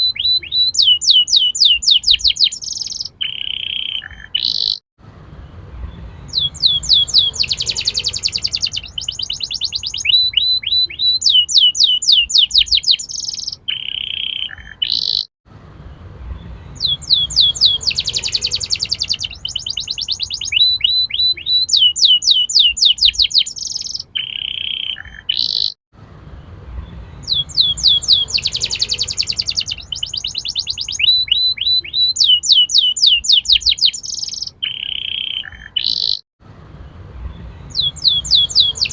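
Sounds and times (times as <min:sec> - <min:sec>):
canary singing: 0:00.0 - 0:04.8, 0:05.9 - 0:15.3, 0:16.4 - 0:25.8, 0:26.8 - 0:36.2, 0:37.3 - 0:38.9.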